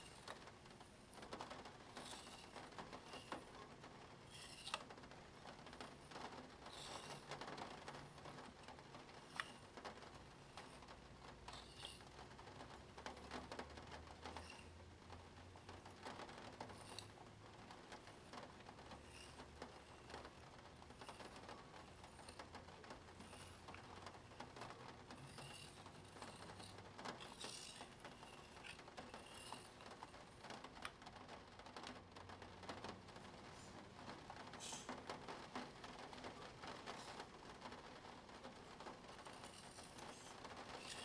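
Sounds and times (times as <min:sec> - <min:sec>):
pen ticking and scratching on paper: 0:00.0 - 0:41.0.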